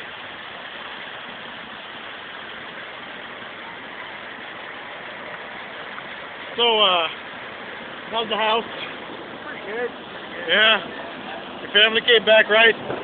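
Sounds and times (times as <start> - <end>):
water rushing along flume: 0.0 - 13.0.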